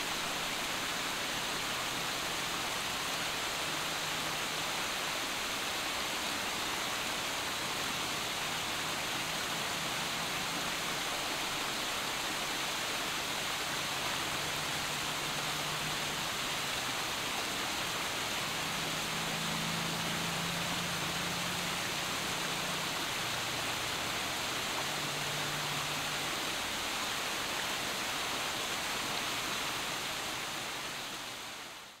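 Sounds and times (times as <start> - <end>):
waterfall splashing over boulders: 0.0 - 32.0.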